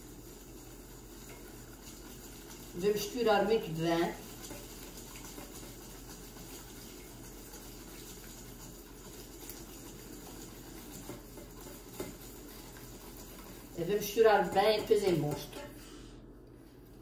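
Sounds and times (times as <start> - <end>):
whisk scraping a steel bowl: 0.5 - 15.8.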